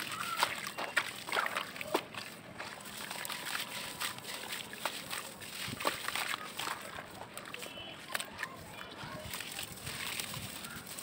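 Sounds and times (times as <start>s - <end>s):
water swishing: 0.0s - 11.0s.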